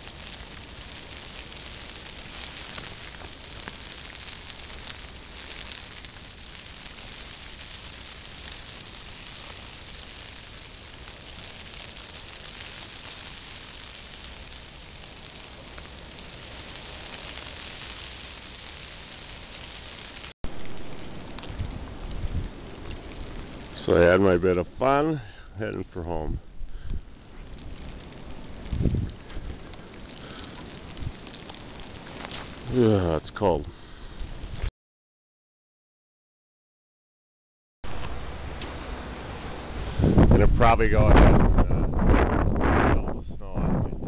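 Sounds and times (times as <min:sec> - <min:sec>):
snow pelting tent fabric: 0:00.0 - 0:26.2, 0:26.8 - 0:34.7, 0:37.8 - 0:43.0.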